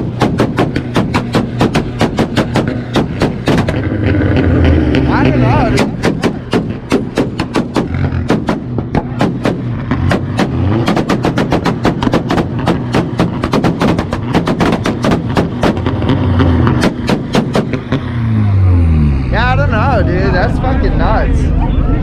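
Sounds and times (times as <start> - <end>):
exhaust pops and bangs: 0.0 - 18.1
engine drone: 0.0 - 22.0.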